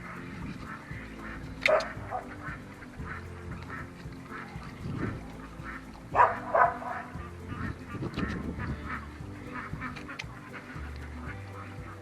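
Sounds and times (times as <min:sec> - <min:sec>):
background music: 0:00.0 - 0:12.0
ducks quacking: 0:00.0 - 0:12.0.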